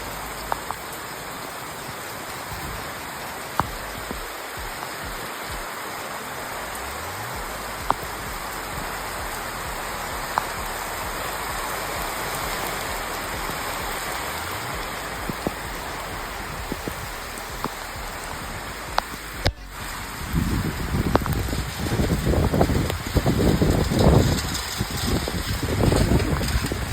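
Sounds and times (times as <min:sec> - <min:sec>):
raindrops tapping: 0:00.0 - 0:26.9
steady rainfall: 0:00.0 - 0:26.9.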